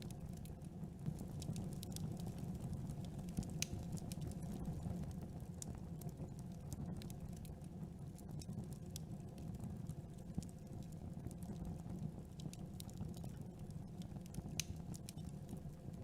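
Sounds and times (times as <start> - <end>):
campfire crackling and popping: 0.0 - 16.0
low rumble of flames: 0.0 - 16.0.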